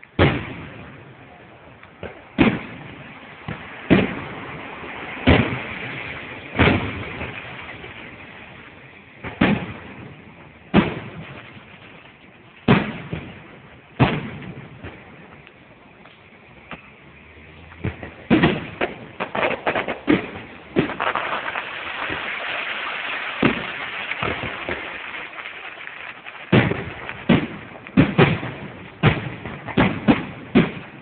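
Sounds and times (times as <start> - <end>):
fireworks booming: 0.0 - 31.0.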